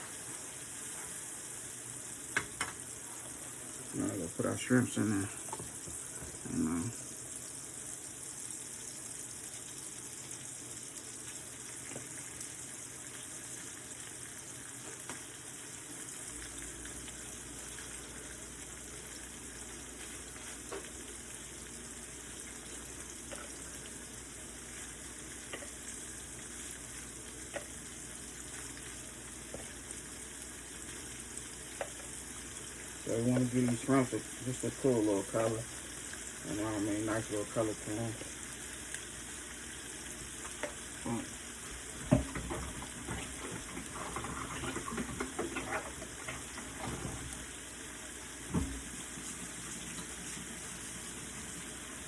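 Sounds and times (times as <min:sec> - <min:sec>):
shrimp sizzling in a pan: 0:00.0 - 0:52.0.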